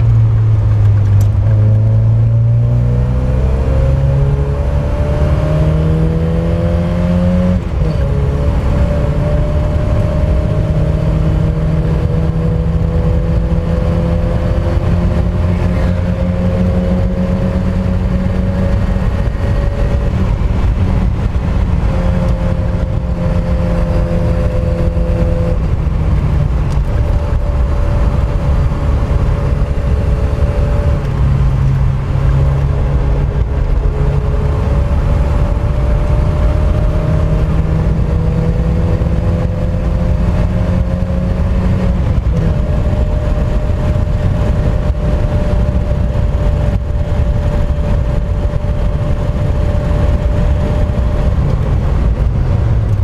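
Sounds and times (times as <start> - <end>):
car engine running hard: 0.0 - 53.0.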